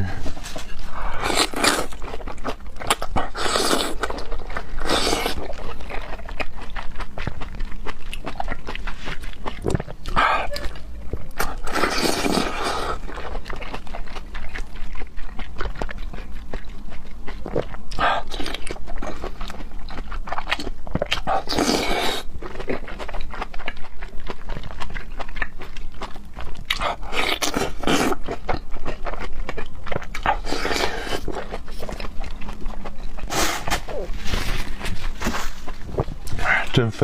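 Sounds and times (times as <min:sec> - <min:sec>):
wet chewing: 0:00.0 - 0:37.0.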